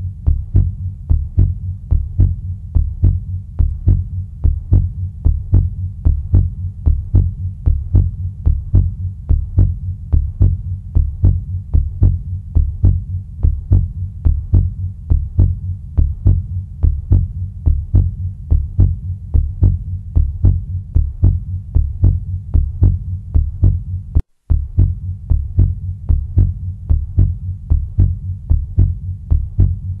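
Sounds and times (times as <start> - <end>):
heartbeat: 0.0 - 30.0.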